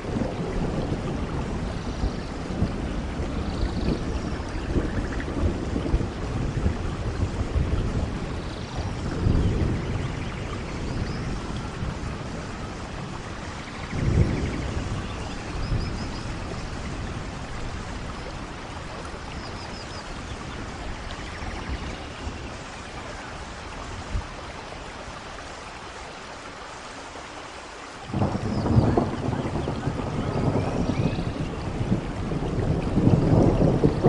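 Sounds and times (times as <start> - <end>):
steady rushing like rain: 0.0 - 34.0.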